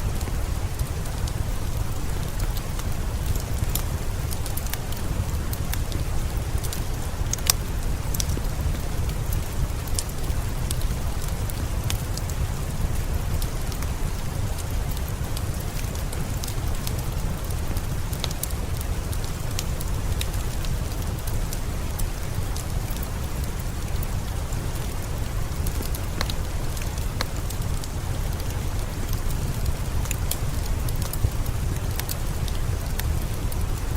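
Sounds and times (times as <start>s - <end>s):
steady rain: 0.0s - 33.9s
wood fire crackling: 0.0s - 33.9s.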